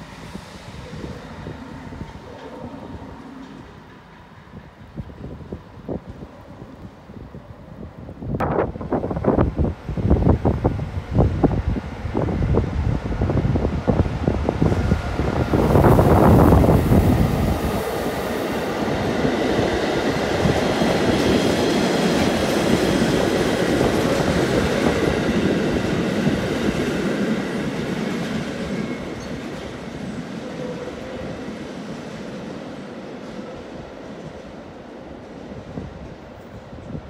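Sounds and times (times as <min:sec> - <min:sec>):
diesel locomotive passing: 0:00.0 - 0:37.0
train wheels rolling on rails: 0:00.0 - 0:37.0.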